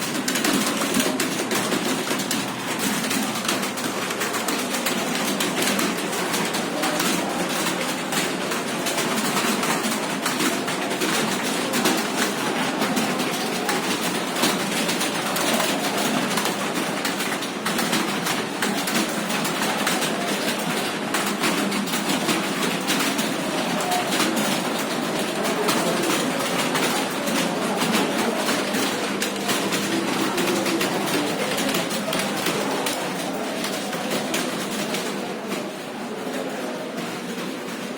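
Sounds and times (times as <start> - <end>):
many keyboards clattering: 0.0 - 37.9.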